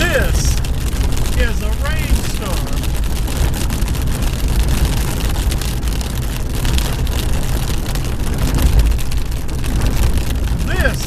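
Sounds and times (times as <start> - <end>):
car engine and tyres rumbling: 0.0 - 11.0
heavy rain on car roof: 0.0 - 11.0.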